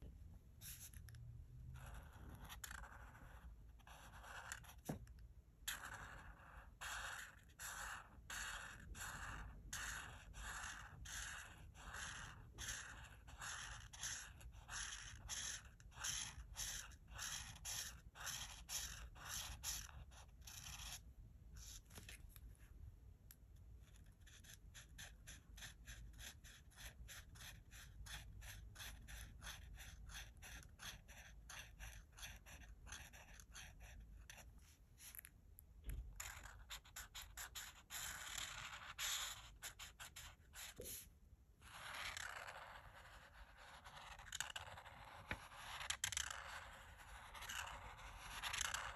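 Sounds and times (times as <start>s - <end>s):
marker rubbing on paper: 0.6s - 1.2s, 1.8s - 22.2s, 23.8s - 48.9s.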